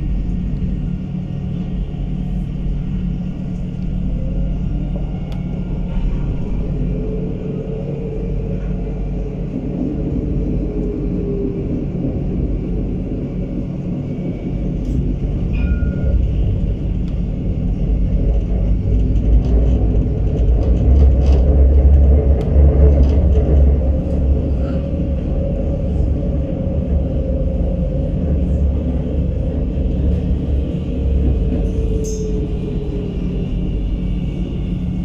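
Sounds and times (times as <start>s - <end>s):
tram rumbling on rails: 0.0s - 35.0s.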